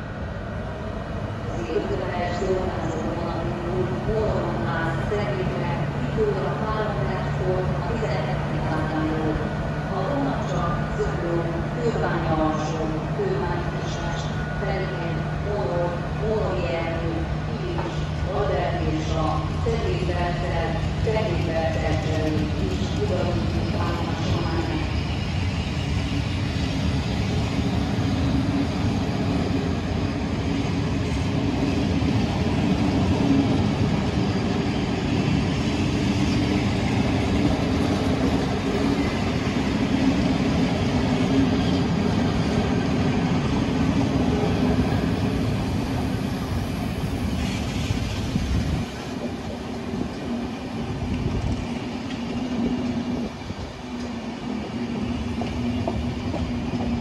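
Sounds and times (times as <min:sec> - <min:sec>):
train coaches rolling on rails: 0:01.2 - 0:57.0.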